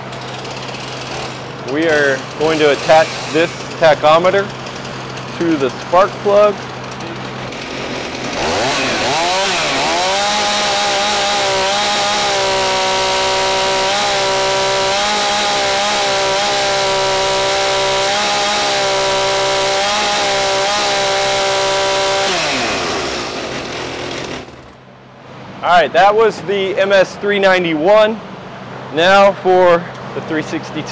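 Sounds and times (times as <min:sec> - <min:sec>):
chainsaw revving: 0:00.0 - 0:24.8.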